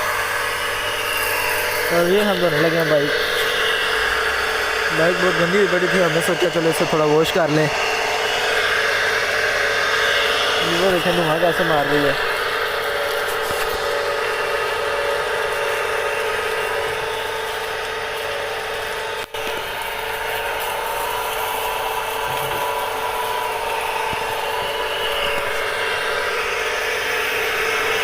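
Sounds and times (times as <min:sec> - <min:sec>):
pressure washer motor: 0:00.0 - 0:28.0.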